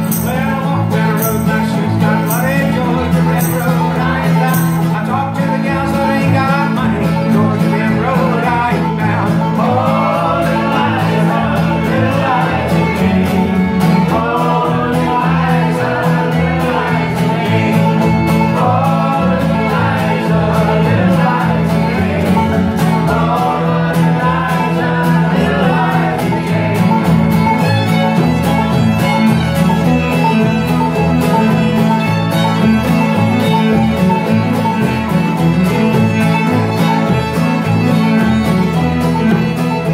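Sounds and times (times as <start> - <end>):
fiddle lead: 0.0 - 39.9
person singing: 0.0 - 39.9
string band playing: 0.0 - 39.9.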